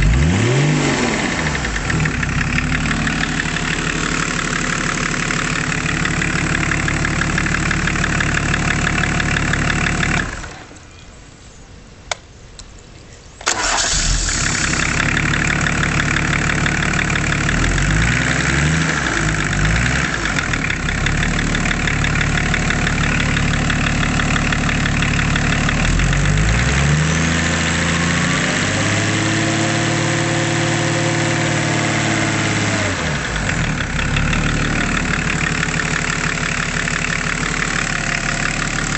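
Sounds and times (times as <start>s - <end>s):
diesel engine idling and revving: 0.0s - 10.8s, 13.5s - 38.9s.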